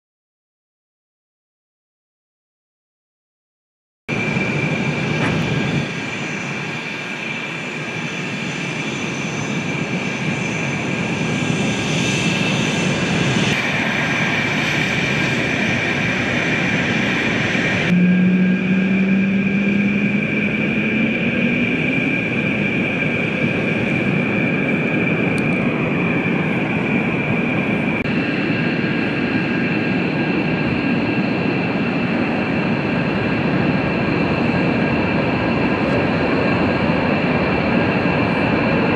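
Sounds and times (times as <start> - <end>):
jet engines spooling up: 4.1 - 38.9
jet engines whining and rumbling: 4.1 - 38.9.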